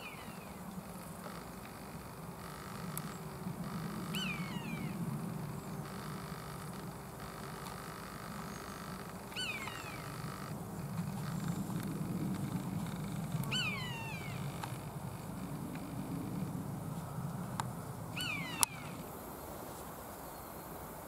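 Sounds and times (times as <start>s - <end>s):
buzzard mewing call: 0.0s - 16.7s, 18.1s - 19.2s
low steady hum: 0.0s - 21.0s.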